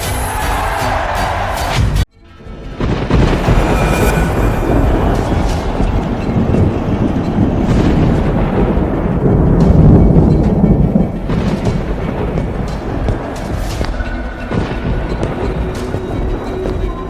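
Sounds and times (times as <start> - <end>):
dramatic background music: 0.0 - 17.0
deep thunder-like rumbling: 2.5 - 16.4.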